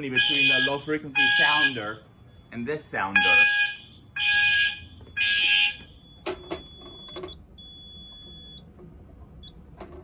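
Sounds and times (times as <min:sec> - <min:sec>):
fire alarm sounder pulse: 0:00.2 - 0:08.6.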